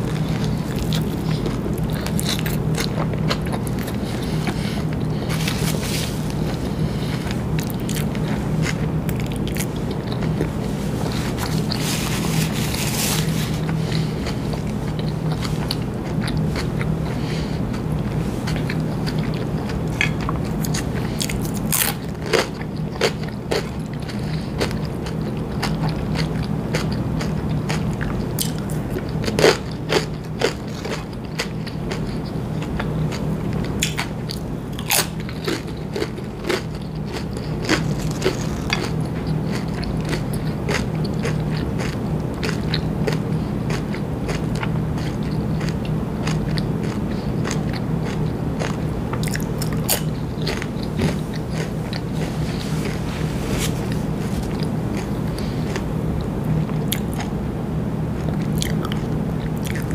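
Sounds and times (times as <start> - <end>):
chewing with wet mouth sounds: 0.0 - 57.4, 58.2 - 59.9
steady low hum: 0.0 - 59.9.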